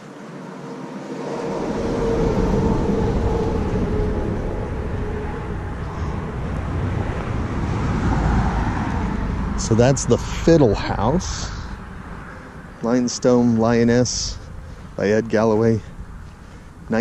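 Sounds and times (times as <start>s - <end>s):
car driving by: 0.0s - 17.0s
deep engine rumble: 1.0s - 17.0s.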